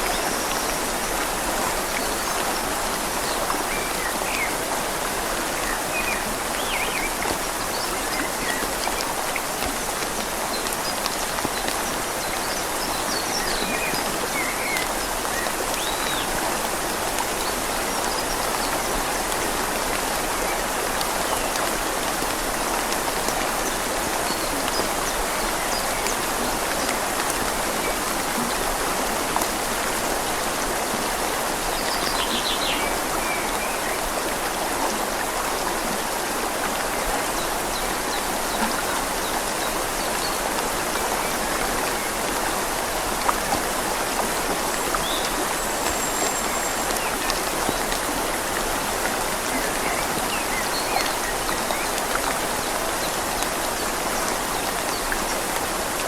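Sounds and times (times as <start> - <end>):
rain on leaves: 0.0 - 56.0
river flowing: 0.0 - 56.0.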